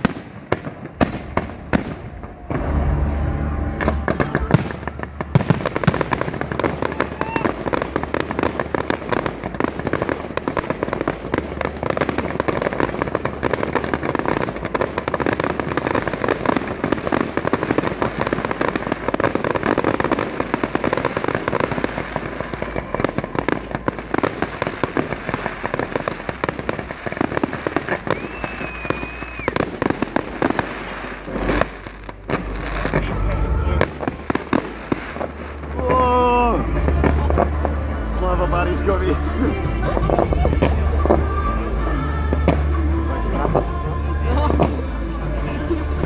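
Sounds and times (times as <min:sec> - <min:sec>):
firework whistling: 0:00.0 - 0:43.5
fireworks bangs: 0:00.0 - 0:46.0
fireworks crackling and popping: 0:00.0 - 0:46.0.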